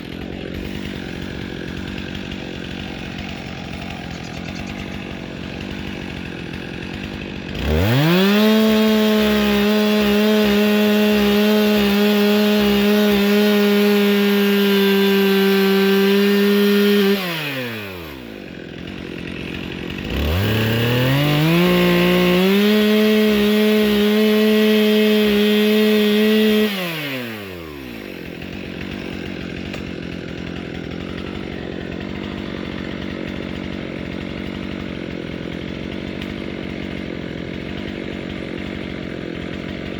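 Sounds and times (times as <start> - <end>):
chainsaw cutting tree: 0.0 - 39.9.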